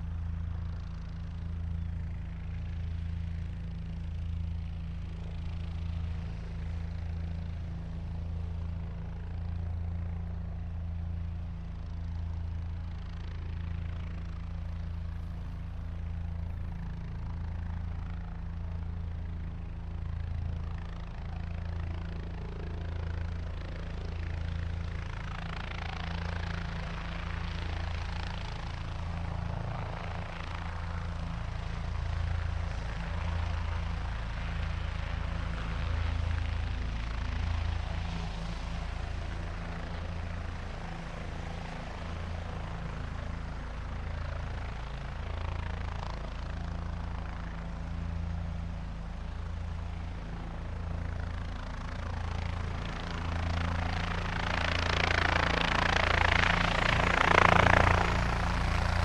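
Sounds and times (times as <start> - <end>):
helicopter rotor throb: 0.0 - 59.0.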